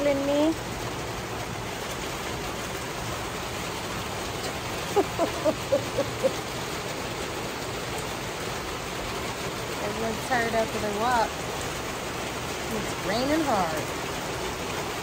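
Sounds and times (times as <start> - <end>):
hard rain falling: 0.0 - 15.0.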